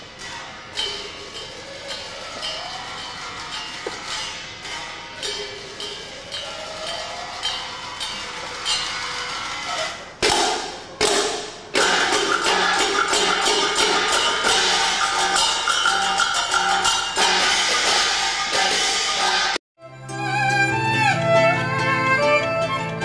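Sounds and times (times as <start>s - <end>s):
hand cymbals clashing: 0.0s - 19.6s.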